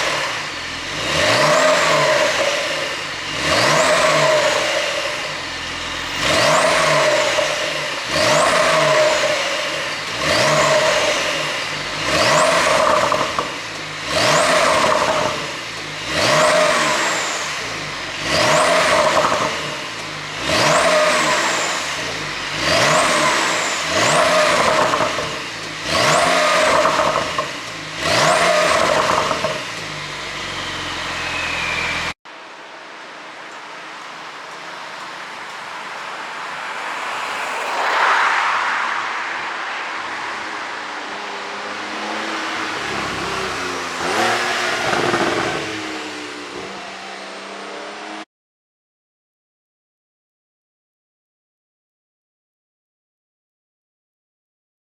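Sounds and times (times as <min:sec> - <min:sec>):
car engine revving: 0:00.0 - 0:32.2, 0:34.6 - 0:48.3.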